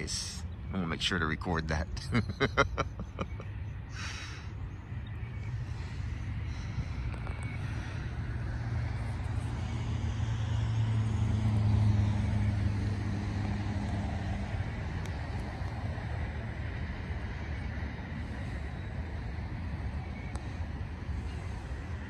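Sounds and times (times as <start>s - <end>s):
highway traffic rumble: 0.0s - 22.0s
heavy vehicle passing: 2.1s - 22.0s.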